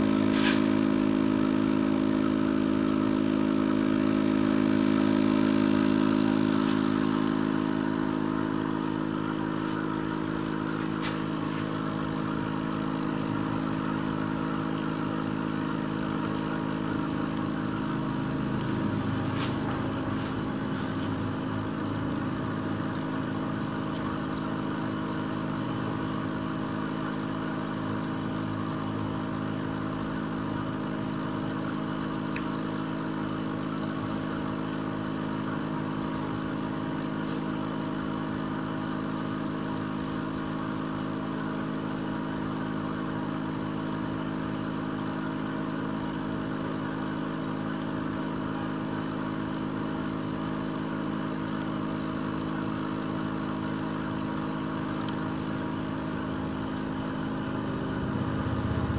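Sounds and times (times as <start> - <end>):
aquarium pump humming: 0.0 - 58.9.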